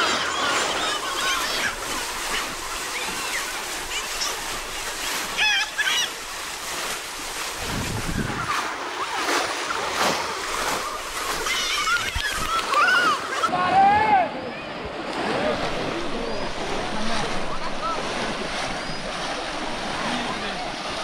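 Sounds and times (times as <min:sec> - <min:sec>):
water sloshing and splashing: 0:00.0 - 0:13.7, 0:14.7 - 0:21.0.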